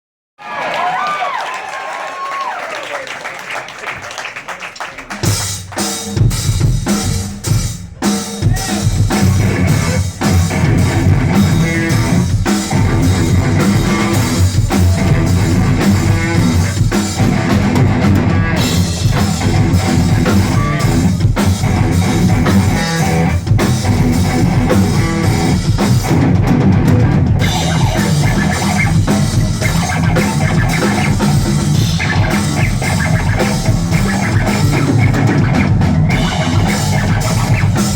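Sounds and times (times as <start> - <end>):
instrumental rock with heavy drumming: 5.2 - 37.9.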